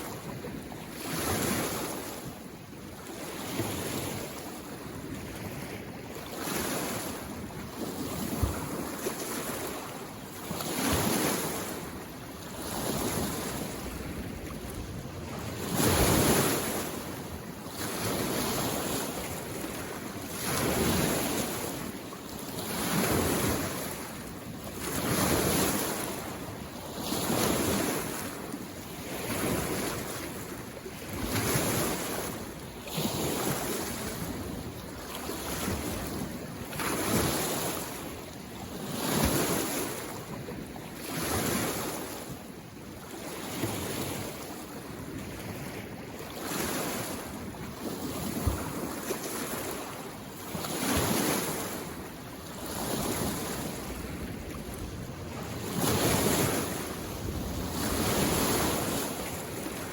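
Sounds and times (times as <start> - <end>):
lake waves washing on shore: 0.0 - 59.9.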